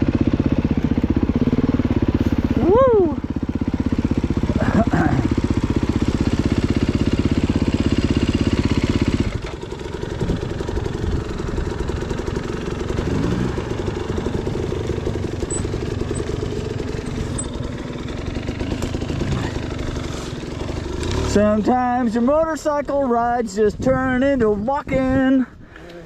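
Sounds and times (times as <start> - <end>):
distant motorcycle engines: 0.0 - 26.0
off-road motorcycle engine: 0.0 - 26.0.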